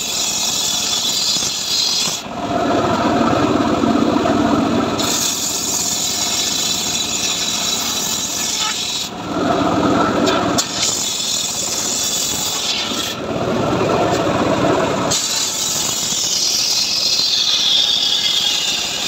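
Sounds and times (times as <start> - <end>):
circular saw cutting wood: 0.0 - 2.9, 3.7 - 19.0.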